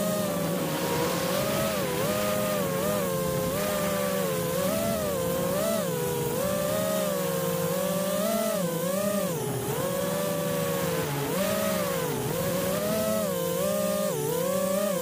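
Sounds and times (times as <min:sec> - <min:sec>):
drone motors buzzing whine: 0:00.0 - 0:15.0.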